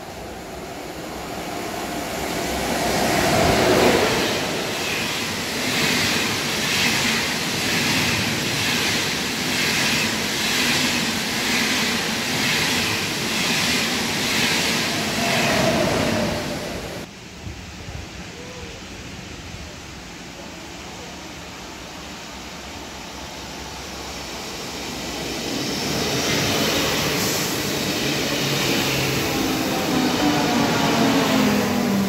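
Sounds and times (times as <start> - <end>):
high-speed train rushing past: 0.0 - 17.1, 19.6 - 32.0.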